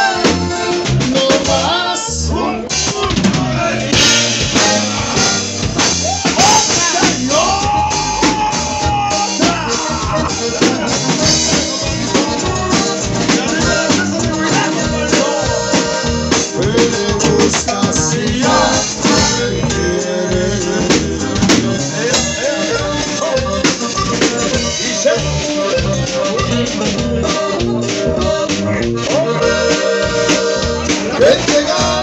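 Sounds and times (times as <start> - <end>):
drum kit beat: 0.0 - 2.0, 2.6 - 32.0
accordion: 0.0 - 32.0
electric bass: 0.0 - 32.0.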